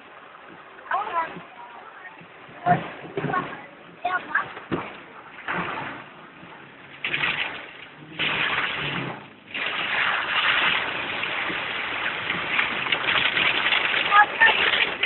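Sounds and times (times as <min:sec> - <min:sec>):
rain: 0:00.0 - 0:15.0
rushing water: 0:00.0 - 0:15.0.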